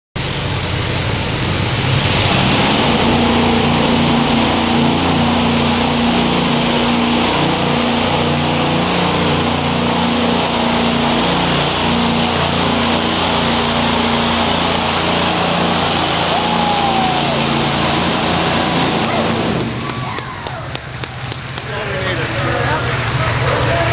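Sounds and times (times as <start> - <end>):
tractor engine at high revs: 0.2 - 23.9.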